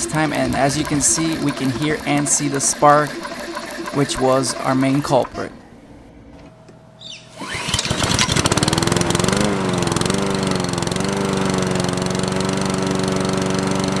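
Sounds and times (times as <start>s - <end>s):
lawnmower engine starting and running: 0.0s - 5.9s, 7.0s - 14.0s.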